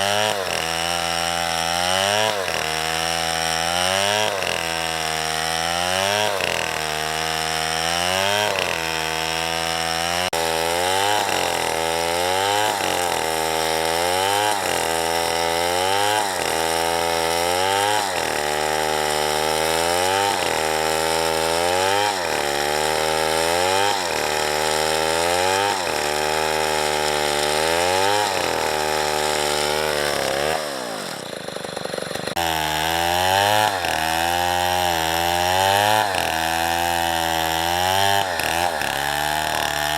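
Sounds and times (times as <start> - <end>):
chainsaw cutting a tree: 0.0 - 39.9.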